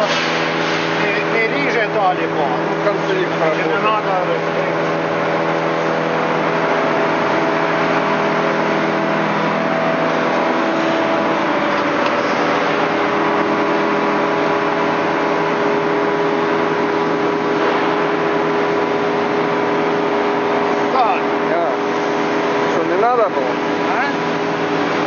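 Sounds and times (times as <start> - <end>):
band saw motor hum: 0.0 - 25.0.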